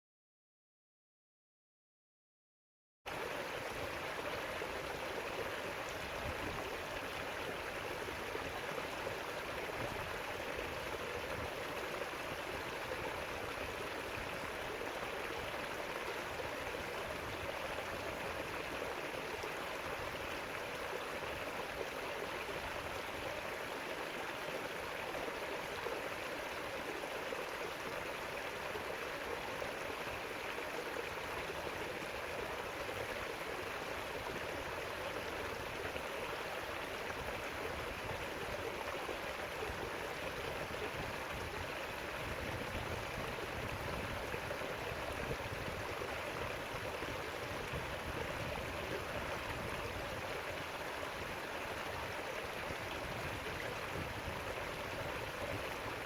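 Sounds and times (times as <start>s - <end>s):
river water rushing over rocks: 3.1s - 56.0s.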